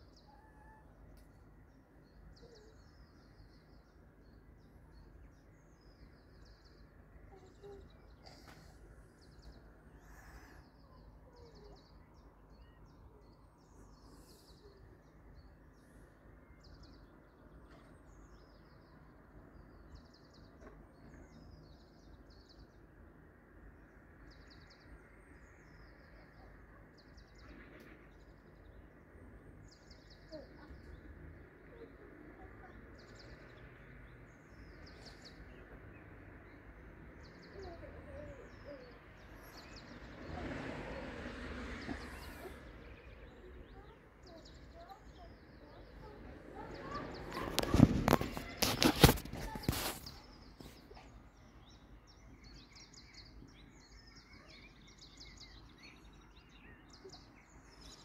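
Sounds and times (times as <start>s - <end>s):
faint birds twittering: 0.0s - 58.0s.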